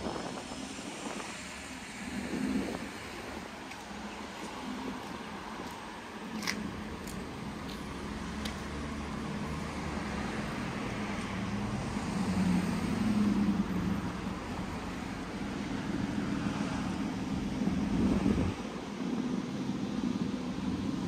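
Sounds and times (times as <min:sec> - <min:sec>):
street traffic noise: 0:00.0 - 0:21.0
vehicle low rumble: 0:00.0 - 0:21.0.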